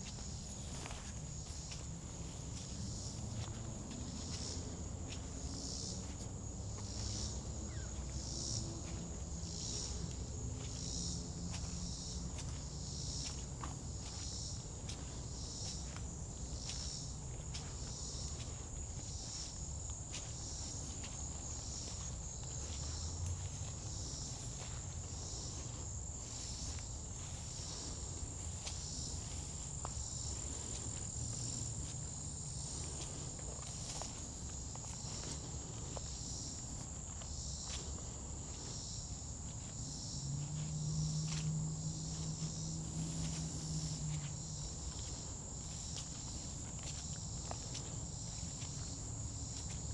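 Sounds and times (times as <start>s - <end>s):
footsteps on forest path: 0.0s - 49.9s
insects trilling: 0.0s - 49.9s.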